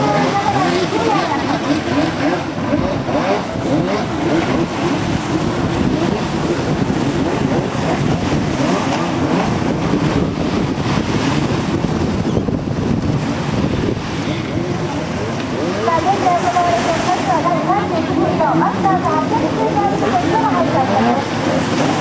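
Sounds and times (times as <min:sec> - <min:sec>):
jet ski engines racing: 0:00.0 - 0:22.0.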